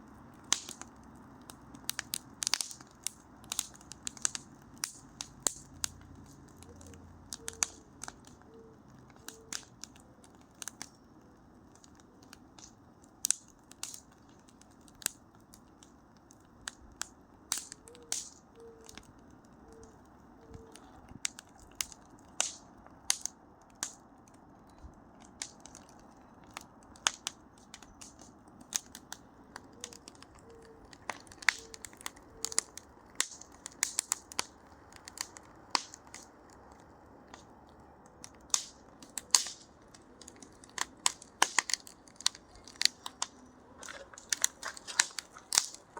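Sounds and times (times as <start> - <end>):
soft steady hiss: 0.0 - 45.9
wood fire crackling and popping: 0.0 - 45.9.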